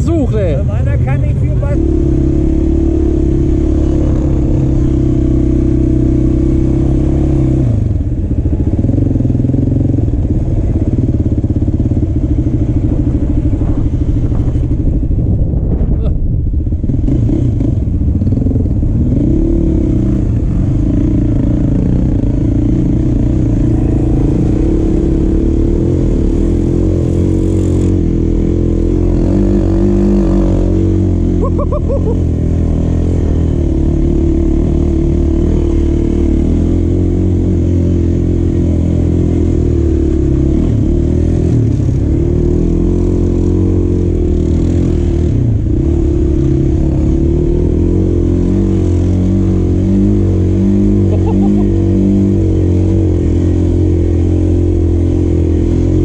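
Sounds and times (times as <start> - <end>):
quad engine revving: 0.0 - 15.0, 16.9 - 56.0.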